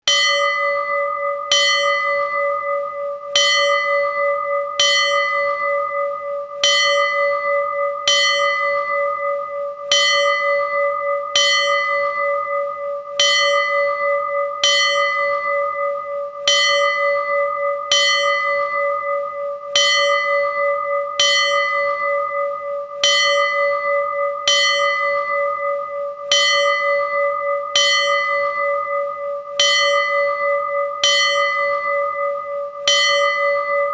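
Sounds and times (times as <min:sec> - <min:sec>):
temple bell ringing: 0:00.0 - 0:33.9.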